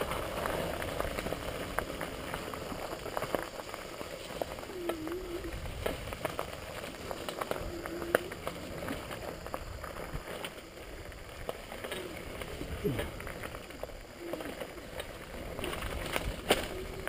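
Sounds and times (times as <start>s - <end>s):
bicycle tyres on leafy dirt trail: 0.0s - 17.0s
bike rattling over bumps: 0.0s - 17.0s.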